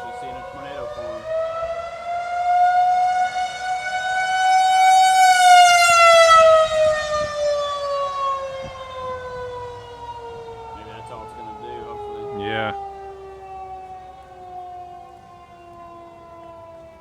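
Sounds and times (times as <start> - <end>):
tornado warning siren wailing: 0.0 - 17.0.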